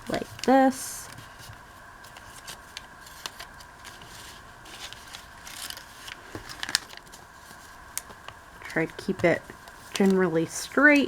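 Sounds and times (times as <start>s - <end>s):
paper rustling and scraping: 0.0s - 11.0s.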